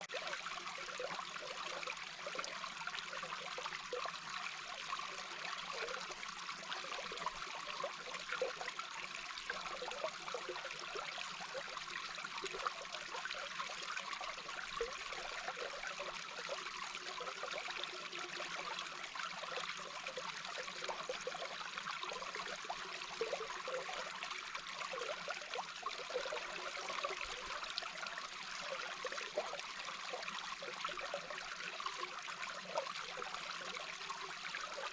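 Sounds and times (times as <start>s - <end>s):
flowing water underwater: 0.0s - 34.9s.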